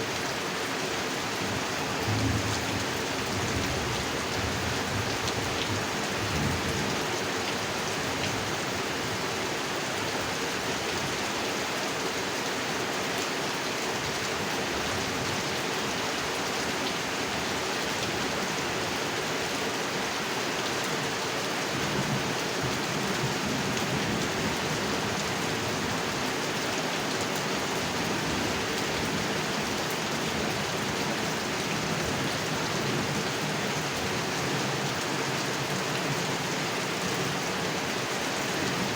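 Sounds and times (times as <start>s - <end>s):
rain falling on pond: 0.0s - 38.9s.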